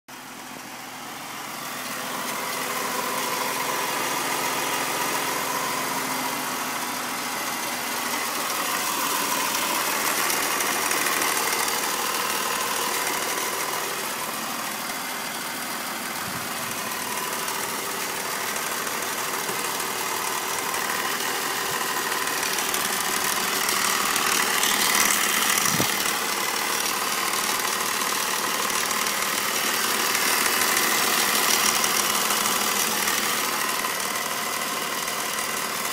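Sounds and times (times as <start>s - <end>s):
car engine idling: 0.1s - 35.9s
fast engine ticking: 0.4s - 35.9s.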